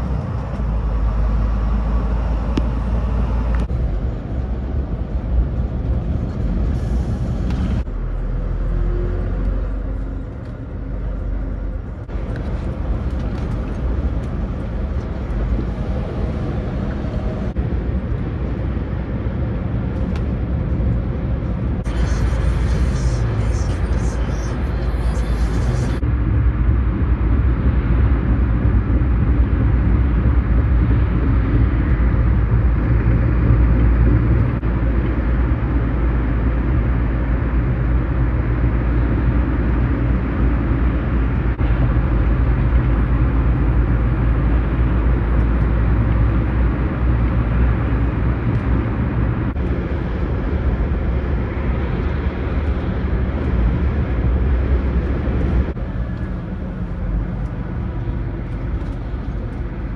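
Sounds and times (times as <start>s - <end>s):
low engine drone: 0.0s - 59.9s
tyre and road rumble: 0.0s - 59.9s.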